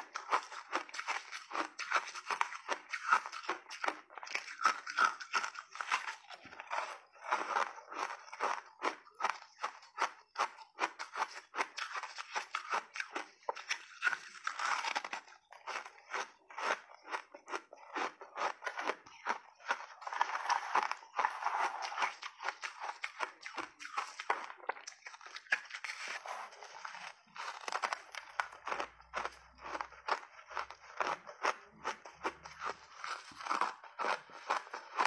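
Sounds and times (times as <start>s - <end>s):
chewing crunchy ice: 0.0s - 35.0s.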